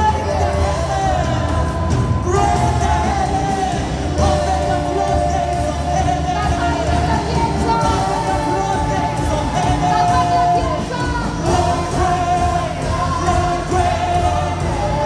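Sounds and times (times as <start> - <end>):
band playing: 0.0 - 15.0
man and woman singing: 0.0 - 15.0.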